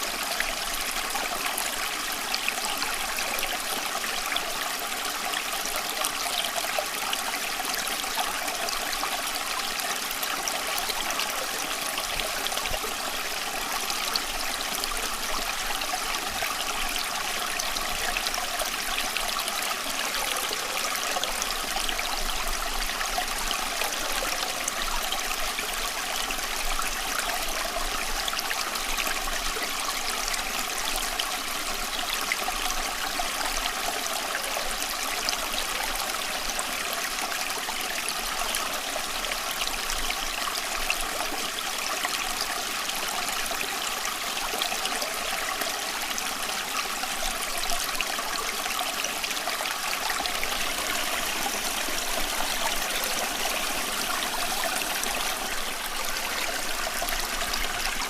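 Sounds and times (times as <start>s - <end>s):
stream trickling and babbling: 0.0s - 58.0s.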